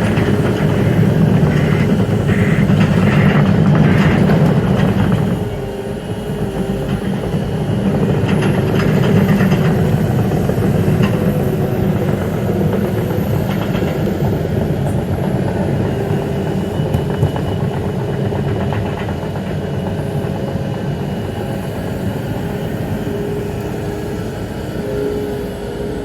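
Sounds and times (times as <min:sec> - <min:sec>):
train rolling on tracks: 0:00.0 - 0:26.0.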